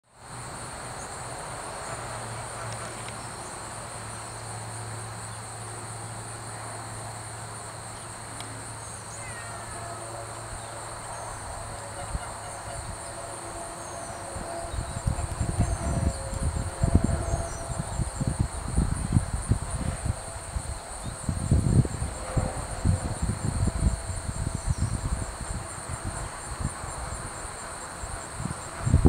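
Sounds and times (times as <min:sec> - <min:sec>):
crickets chirring: 0:00.1 - 0:29.0.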